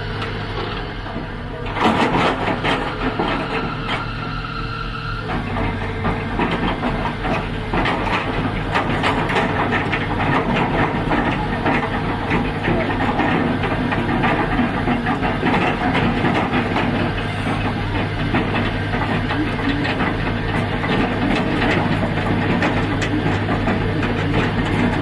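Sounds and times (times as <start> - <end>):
excavator diesel engine running: 0.0 - 25.0
excavator bucket clanking: 0.2 - 4.2, 5.2 - 25.0.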